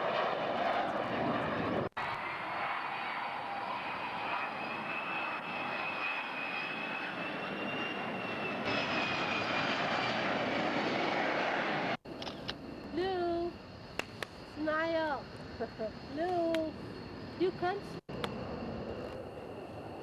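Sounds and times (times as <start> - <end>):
aircraft engine whine: 0.0 - 20.0.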